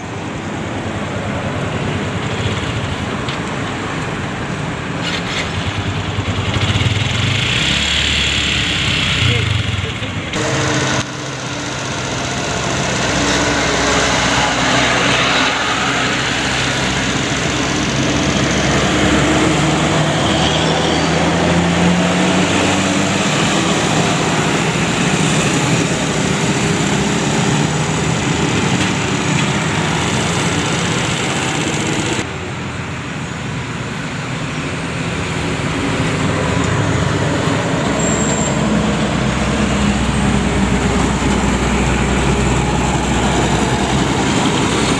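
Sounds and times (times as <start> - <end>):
bus and truck engines: 0.0 - 44.9
road traffic noise: 0.0 - 44.9.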